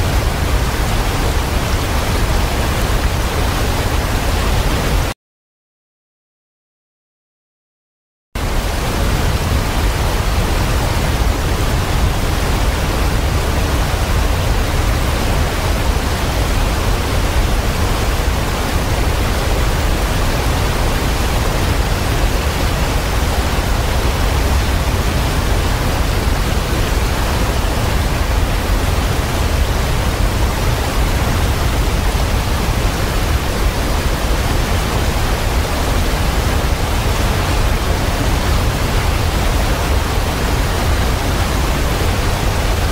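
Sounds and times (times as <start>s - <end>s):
waterfall rushing: 0.0s - 5.1s, 8.4s - 42.9s.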